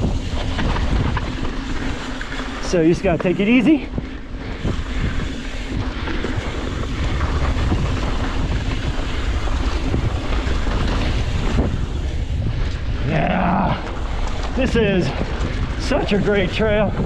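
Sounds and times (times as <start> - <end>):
bike tyre noise and rattle: 0.0 - 17.0
wind buffeting microphone: 0.0 - 17.0.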